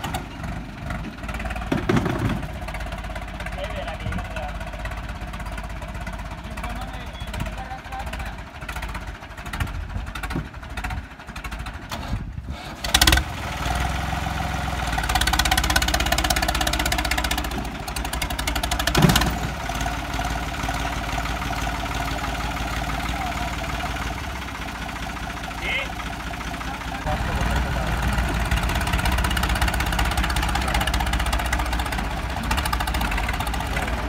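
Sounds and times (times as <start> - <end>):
tractor diesel engines under load: 0.0 - 34.0.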